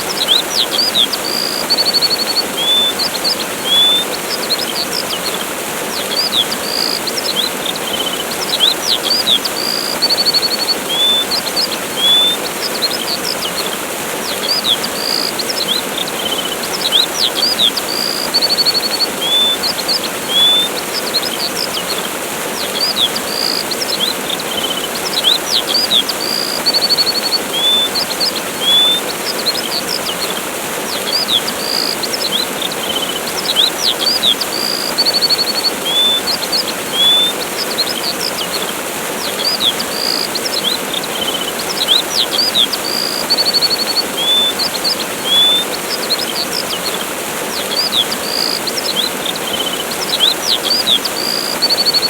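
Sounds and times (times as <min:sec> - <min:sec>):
small birds chirping: 0:00.0 - 0:52.0
waterfall rushing: 0:00.0 - 0:52.0.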